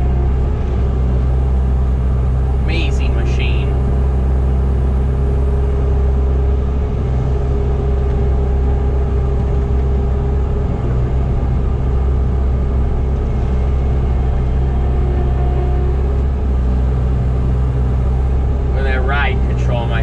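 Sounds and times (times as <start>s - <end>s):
diesel engine running: 0.0s - 20.0s
steady whine: 0.0s - 20.0s.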